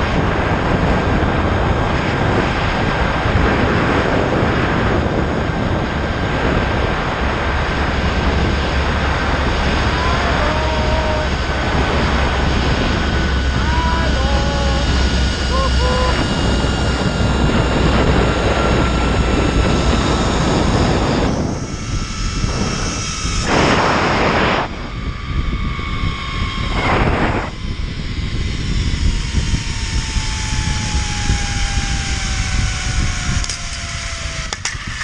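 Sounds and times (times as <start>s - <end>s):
wind rushing over microphone: 0.0s - 35.0s
zip-line pulley whine: 0.0s - 35.0s.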